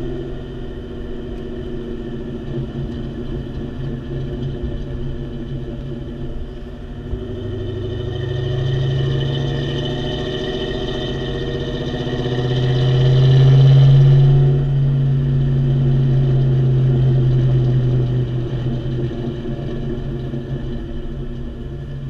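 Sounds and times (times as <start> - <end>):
car exhaust drone: 0.0 - 22.0.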